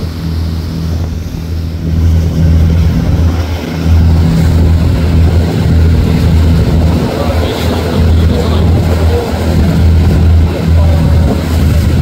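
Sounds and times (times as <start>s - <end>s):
boat engine droning: 0.0s - 12.0s
rushing water: 0.0s - 12.0s.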